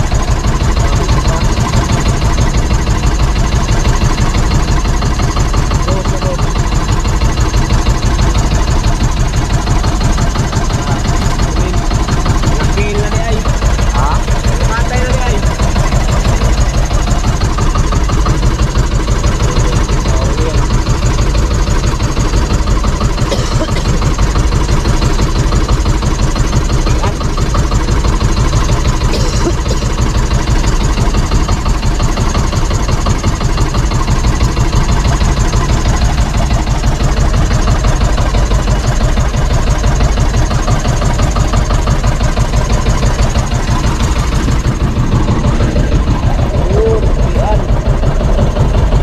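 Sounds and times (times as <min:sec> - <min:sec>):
small boat engine running: 0:00.0 - 0:49.0.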